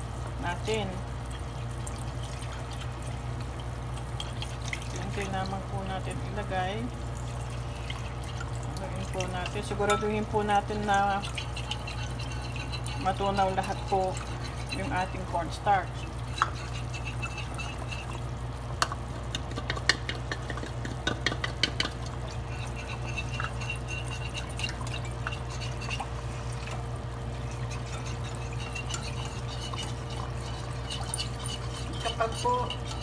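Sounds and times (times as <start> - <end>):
sauce bubbling at a boil: 0.0 - 33.0.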